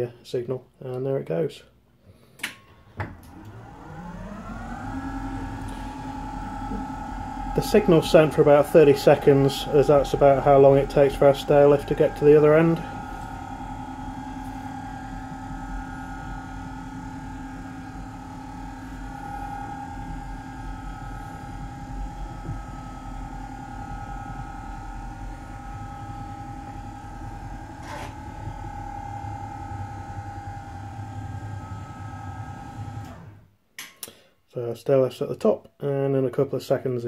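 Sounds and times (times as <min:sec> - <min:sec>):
stairlift motor humming and whining: 0:03.0 - 0:33.5.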